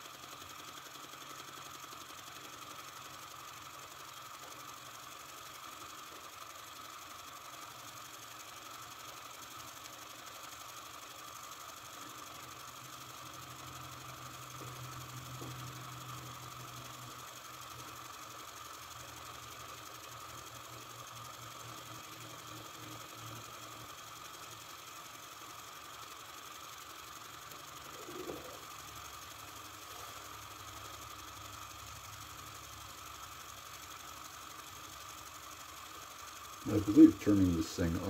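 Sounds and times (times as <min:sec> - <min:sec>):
toy steam engine ticking: 0:00.0 - 0:38.0.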